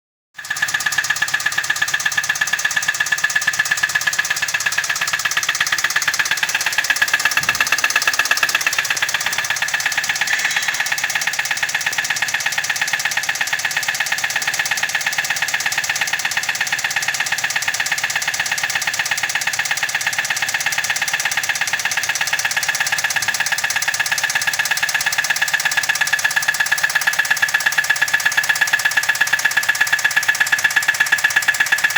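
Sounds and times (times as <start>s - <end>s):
car engine idling with knocking: 0.4s - 31.9s.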